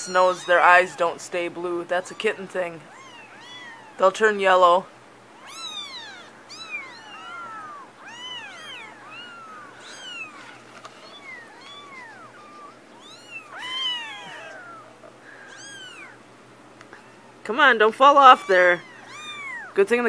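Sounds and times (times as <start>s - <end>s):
kittens mewing: 0.0s - 4.3s, 5.2s - 17.5s, 18.1s - 19.8s.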